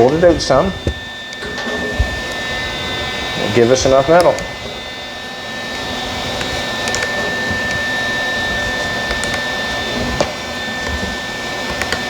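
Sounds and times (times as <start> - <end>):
machine whir with high whine: 0.0 - 12.0.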